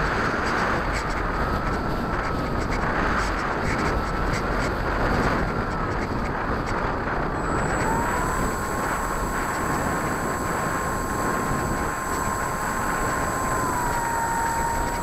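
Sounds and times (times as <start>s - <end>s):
model airplane motor whine: 0.0s - 15.0s
wind rushing over microphone: 0.0s - 15.0s.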